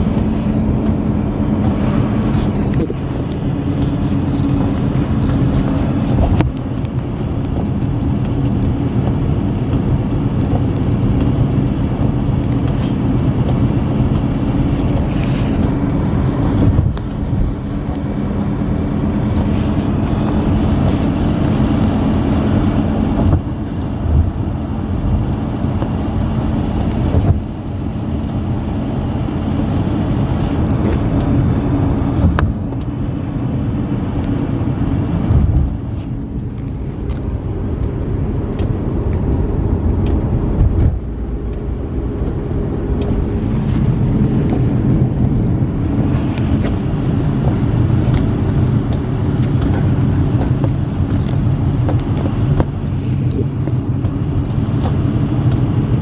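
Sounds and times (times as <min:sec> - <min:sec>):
car cabin road and engine noise: 0:00.0 - 0:56.0.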